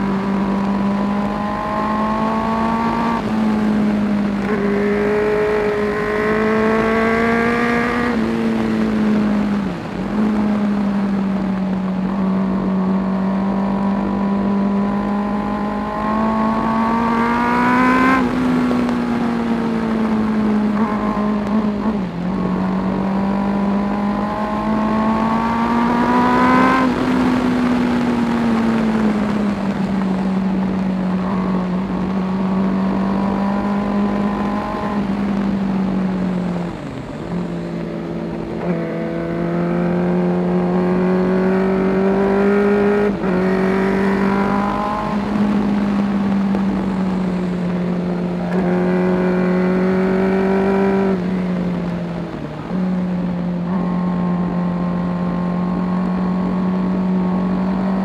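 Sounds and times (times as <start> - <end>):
motorcycle engine running at speed: 0.0 - 58.0.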